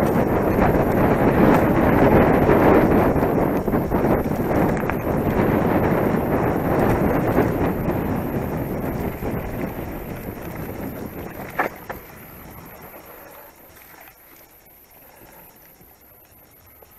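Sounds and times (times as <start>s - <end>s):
wind buffeting microphone: 0.0s - 14.2s
bike tyres rolling on dirt: 0.0s - 16.9s.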